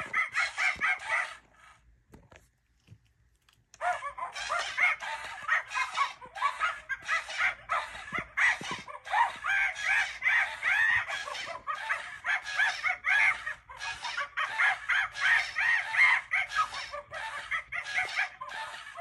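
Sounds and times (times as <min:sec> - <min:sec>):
toy monkey screeching and chattering: 0:00.0 - 0:01.8, 0:03.8 - 0:19.0.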